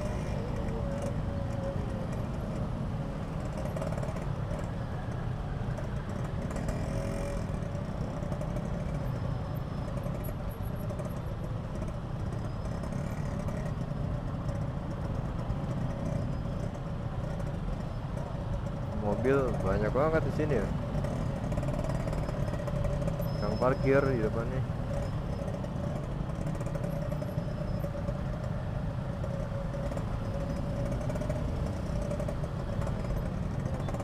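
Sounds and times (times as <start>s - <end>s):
two-stroke motorcycle engine: 0.0s - 34.0s.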